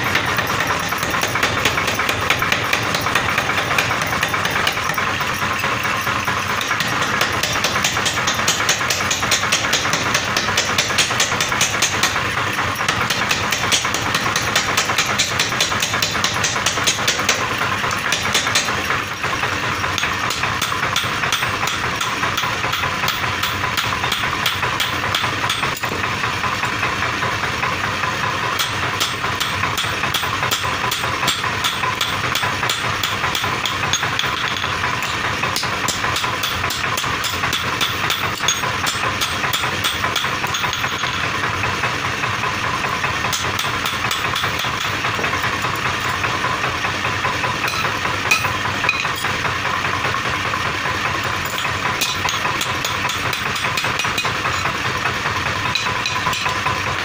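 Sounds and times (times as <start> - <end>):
hand hammer on anvil: 0.0 - 26.8, 28.5 - 41.4, 43.2 - 49.4, 51.2 - 56.8
power hammer knocking: 0.0 - 27.4, 28.4 - 57.0.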